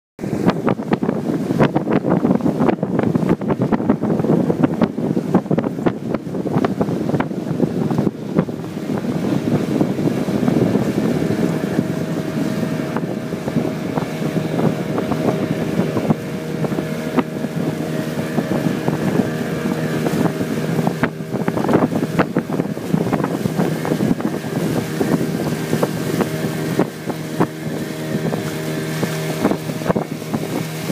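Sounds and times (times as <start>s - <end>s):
outboard motor running: 0.2s - 30.9s
wind buffeting microphone: 0.2s - 30.9s.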